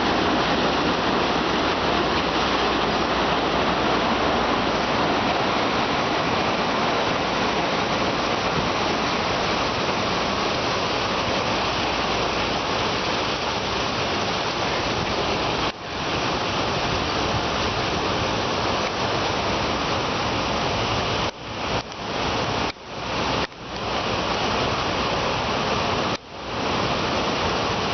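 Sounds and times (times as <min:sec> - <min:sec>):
water sprays rushing: 0:00.0 - 0:27.9.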